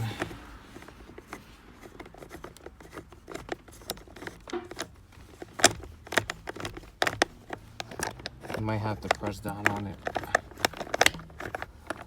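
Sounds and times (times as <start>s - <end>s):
hand tool clicking and rattling: 0.0s - 12.0s.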